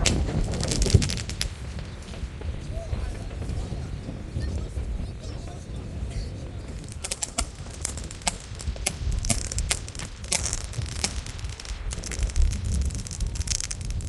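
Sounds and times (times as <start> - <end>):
fireworks cracking and popping: 0.0 - 14.0
wind rumble on microphone: 0.0 - 14.0.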